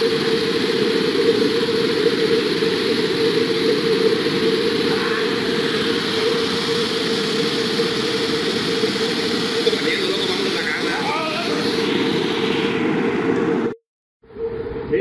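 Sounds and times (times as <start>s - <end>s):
flood torrent rushing: 0.0s - 13.2s.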